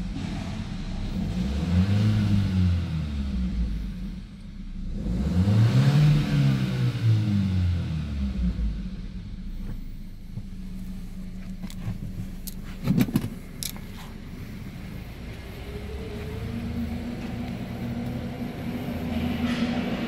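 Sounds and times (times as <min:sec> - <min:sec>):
car engine idling: 0:00.0 - 0:05.2, 0:07.2 - 0:20.0.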